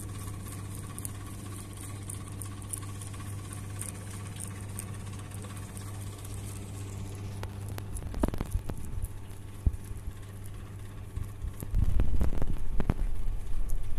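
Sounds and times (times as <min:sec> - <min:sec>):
rabbit chewing a leaf: 0:00.0 - 0:13.9
steady low hum: 0:00.0 - 0:13.9.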